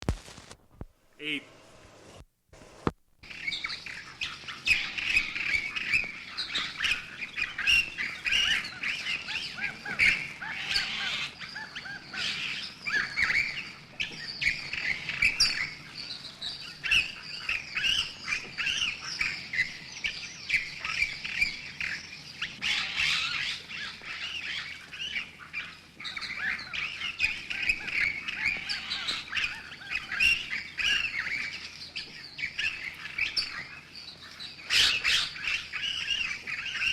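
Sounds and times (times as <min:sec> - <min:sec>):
birds squeaking and chirping: 0:03.2 - 0:36.9.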